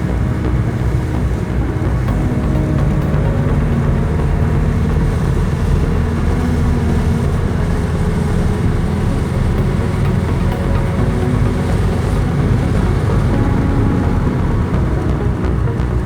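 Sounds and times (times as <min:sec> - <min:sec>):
car engine running: 0:00.0 - 0:16.0
road noise: 0:00.0 - 0:16.0.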